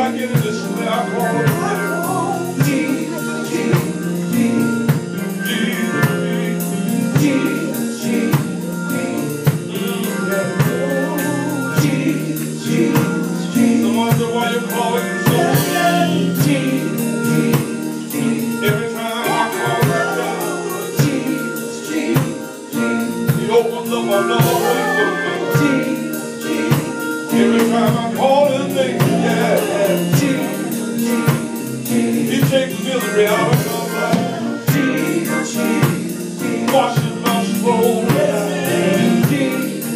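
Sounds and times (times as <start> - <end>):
backing band: 0.0 - 39.9
gospel group singing: 0.0 - 39.9
steady drum beat: 0.0 - 39.9.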